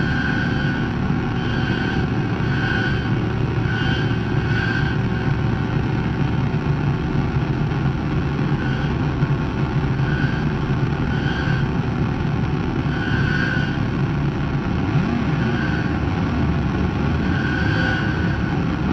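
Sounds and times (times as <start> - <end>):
distorted guitar pedal drone: 0.0 - 18.9.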